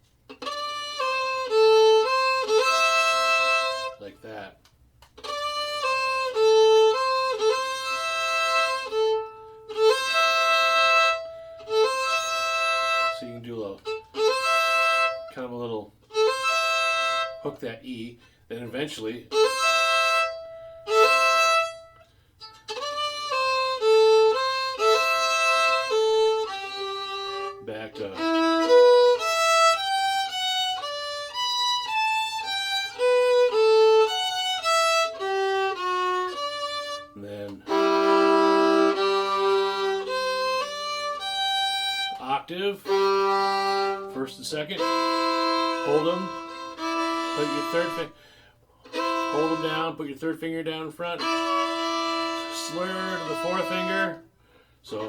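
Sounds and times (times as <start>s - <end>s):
fiddle bowing double stops: 0.3s - 4.5s, 5.1s - 17.6s, 19.0s - 55.0s.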